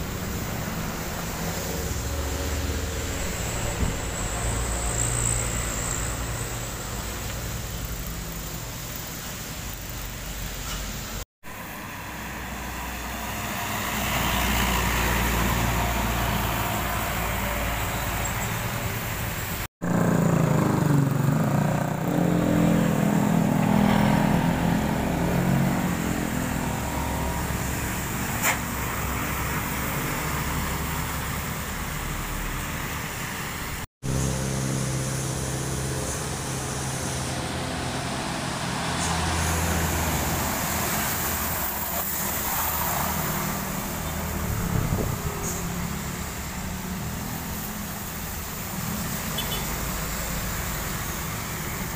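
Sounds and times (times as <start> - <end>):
tyres hissing on wet asphalt: 0.0 - 19.7, 22.7 - 51.9
diesel truck engines: 0.0 - 51.9.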